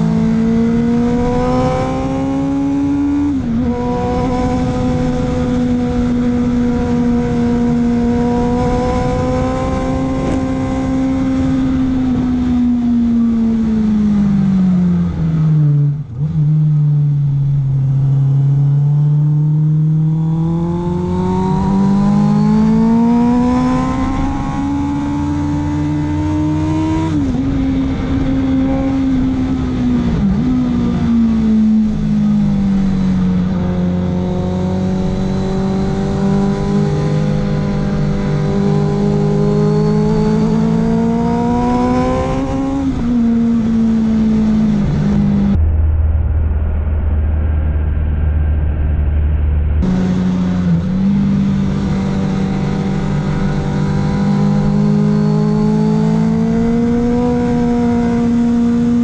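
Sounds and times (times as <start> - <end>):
motorcycle engine revving: 0.0 - 45.8, 48.0 - 59.0.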